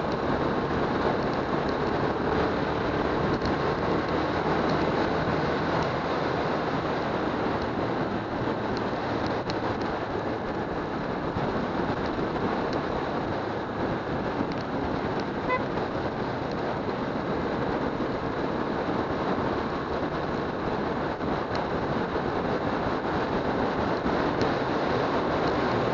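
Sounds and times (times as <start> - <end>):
wind and road noise: 0.0 - 25.9.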